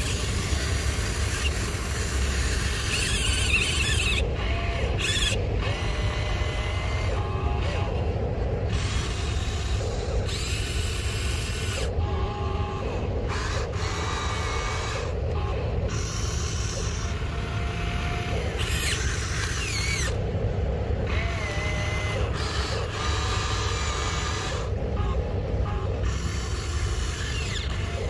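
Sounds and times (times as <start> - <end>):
electric gear motors whining: 0.0 - 28.0
steady low rumble: 4.0 - 28.0.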